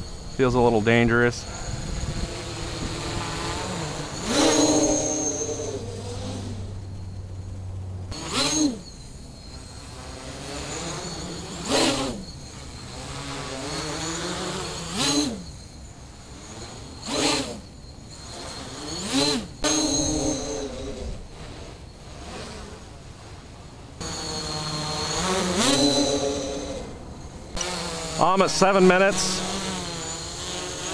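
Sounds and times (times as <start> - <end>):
quadcopter motors buzzing: 0.0 - 30.9.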